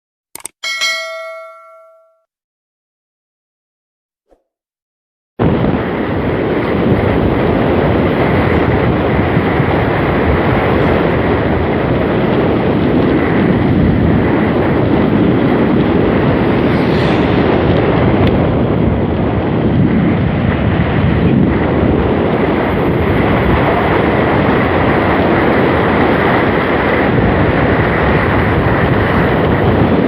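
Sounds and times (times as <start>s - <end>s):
wind buffeting microphone: 5.4s - 30.0s.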